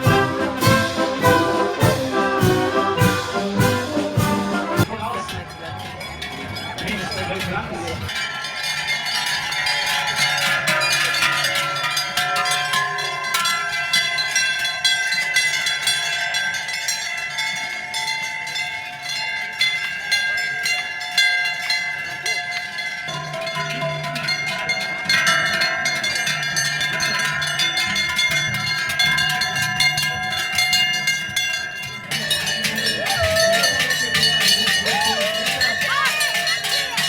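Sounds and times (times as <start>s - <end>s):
cowbells clanging: 0.0s - 37.0s.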